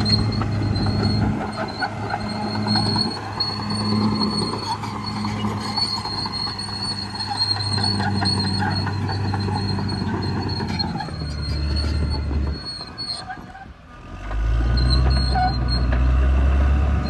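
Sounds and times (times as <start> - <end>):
diesel engine running: 0.0 - 13.7
steel tracks clanking and squealing: 0.0 - 17.0.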